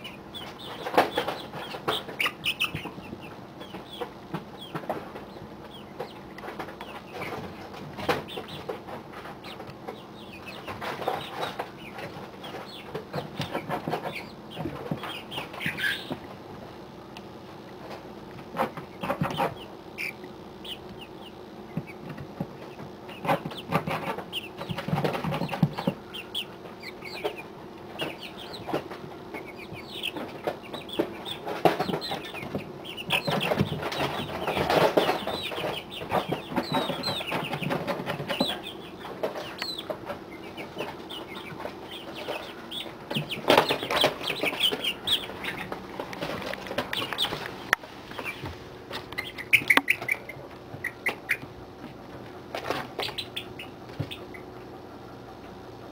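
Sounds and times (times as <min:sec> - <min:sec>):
chicks peeping and chirping: 0:00.0 - 0:55.9
wings flapping: 0:00.3 - 0:16.2, 0:21.8 - 0:51.4.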